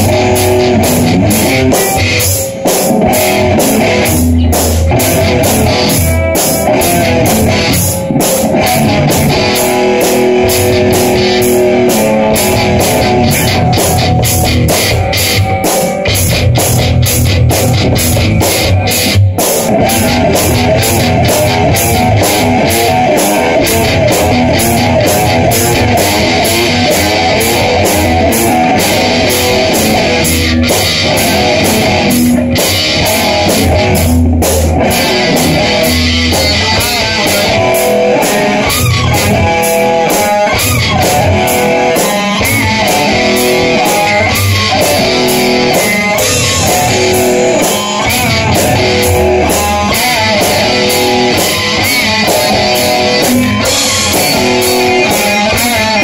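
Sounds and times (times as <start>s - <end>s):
amplified electric guitars: 0.0s - 56.0s
drum beat: 0.0s - 56.0s.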